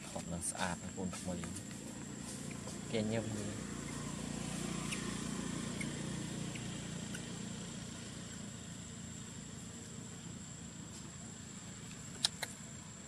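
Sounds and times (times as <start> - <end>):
low engine hum: 0.8 - 13.0.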